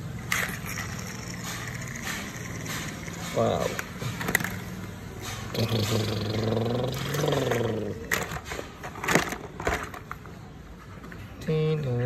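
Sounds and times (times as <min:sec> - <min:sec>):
plastic toys clattering: 0:00.2 - 0:10.4.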